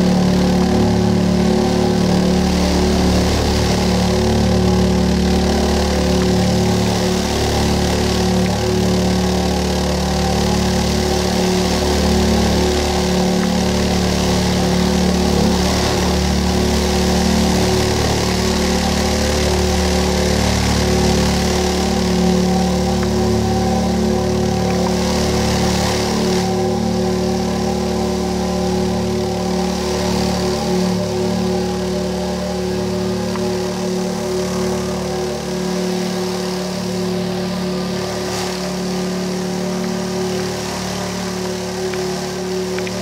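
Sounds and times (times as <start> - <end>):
loudspeaker low buzzing tone: 0.0 - 43.0.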